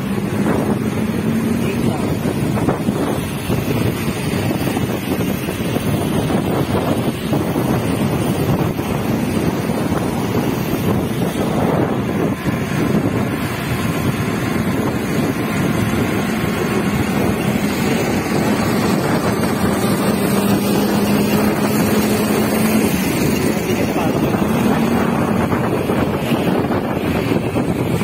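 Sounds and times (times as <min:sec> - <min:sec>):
scooter engine humming: 0:00.0 - 0:28.0
wind on microphone: 0:00.0 - 0:28.0.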